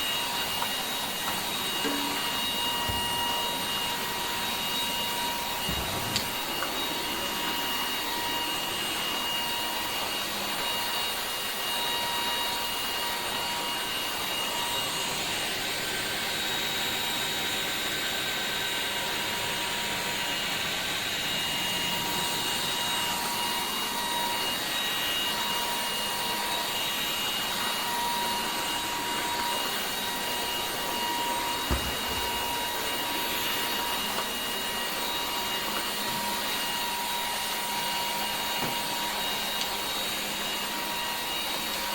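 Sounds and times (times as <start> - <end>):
floor vacuum running: 0.0 - 41.9.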